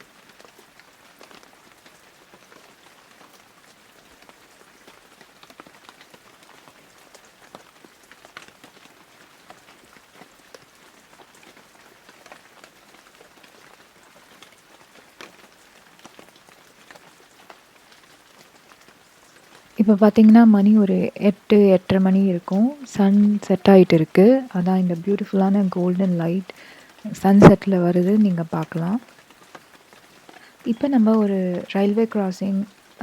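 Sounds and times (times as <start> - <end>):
light rain pattering: 0.0 - 33.0.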